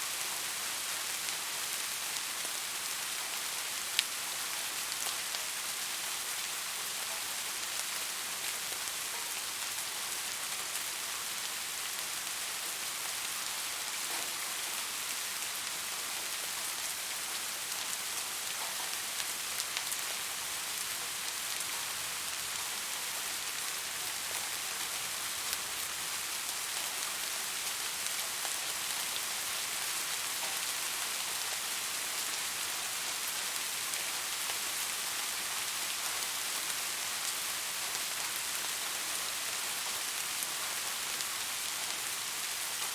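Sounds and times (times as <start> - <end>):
steady rain hissing: 0.0 - 42.9.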